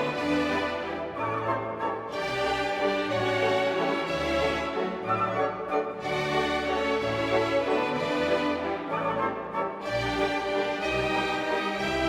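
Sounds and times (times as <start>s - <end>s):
orchestral music with strings: 0.0s - 12.0s.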